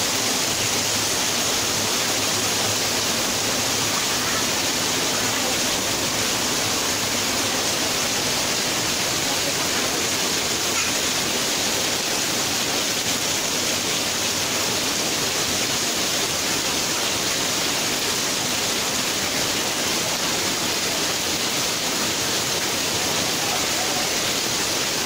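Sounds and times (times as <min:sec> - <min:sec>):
heavy rain pouring off roof: 0:00.0 - 0:25.0.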